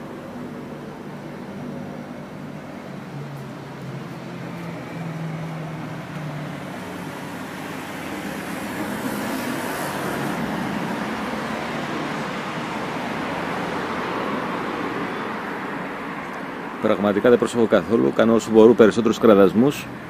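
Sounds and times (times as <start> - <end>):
passing cars: 0.0 - 20.0.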